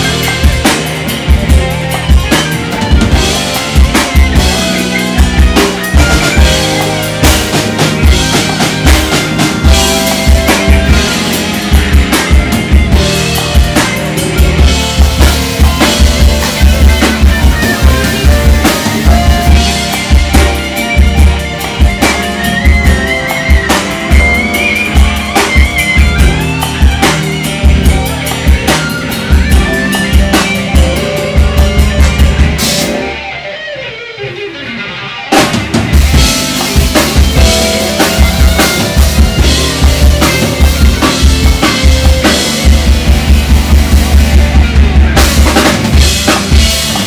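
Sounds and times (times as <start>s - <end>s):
drum beat with snare and rimshots: 0.0s - 33.8s, 35.1s - 47.0s
live band playing: 0.0s - 47.0s.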